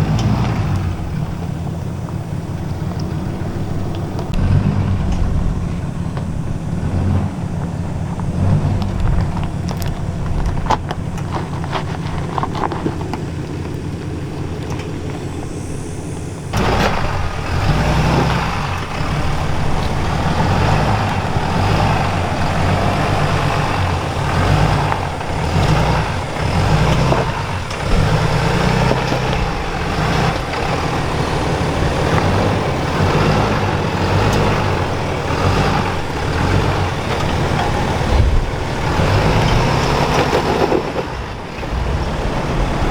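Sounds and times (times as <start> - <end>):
diesel truck engine climbing: 0.0 - 42.9.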